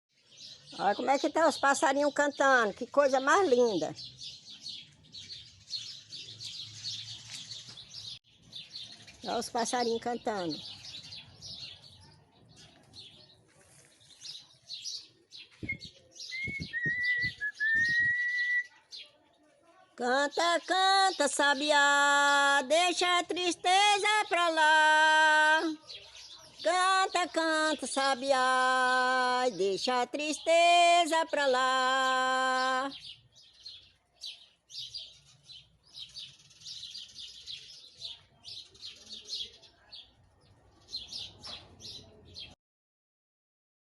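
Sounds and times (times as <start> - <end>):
songbirds chirping and twittering: 0.1 - 42.6.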